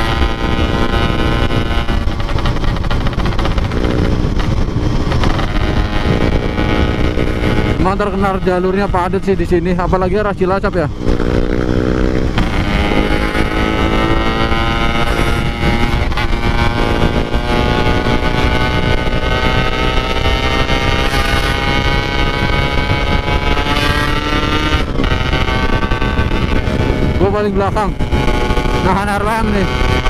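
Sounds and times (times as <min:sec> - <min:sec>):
two-stroke motorcycle engine: 0:00.0 - 0:30.0
wind rumble on microphone: 0:00.0 - 0:30.0.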